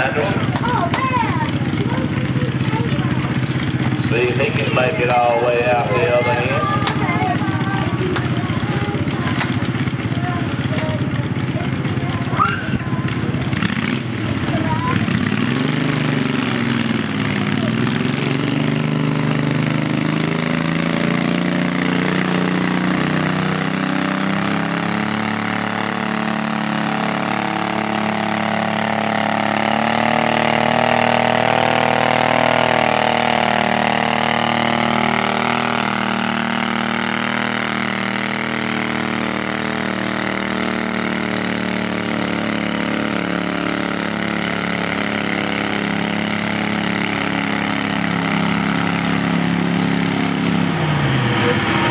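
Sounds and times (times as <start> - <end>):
garden tractor engine under load: 0.0 - 51.9.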